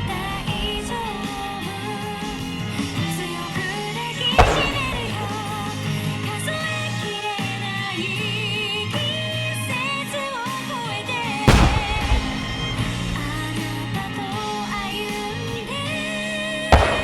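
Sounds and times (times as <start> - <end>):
firework shell bursts: 0.0 - 17.0
pop song with singing: 0.0 - 17.0.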